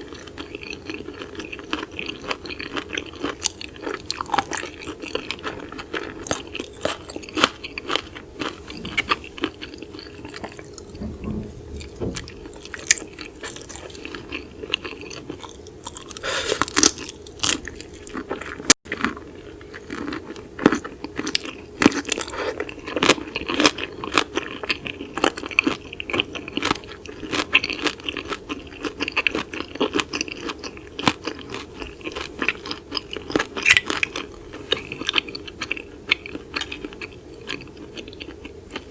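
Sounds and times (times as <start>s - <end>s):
chewing and crunching seafood: 0.0s - 11.0s, 12.2s - 38.9s.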